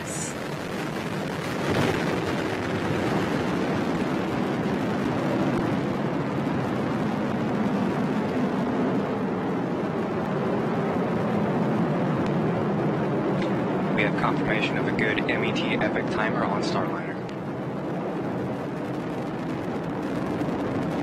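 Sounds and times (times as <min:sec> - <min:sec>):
rocket engine roar: 0:00.0 - 0:21.0.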